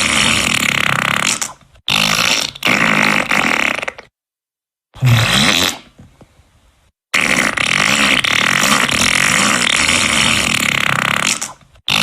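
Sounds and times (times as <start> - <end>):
fart sound effects: 0.0 - 4.1, 5.0 - 6.1, 7.1 - 12.0.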